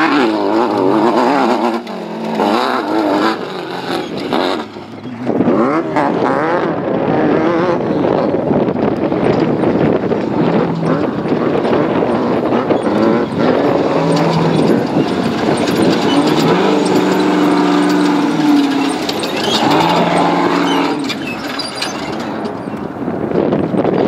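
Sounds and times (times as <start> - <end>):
off-road race car engines: 0.0 - 24.0.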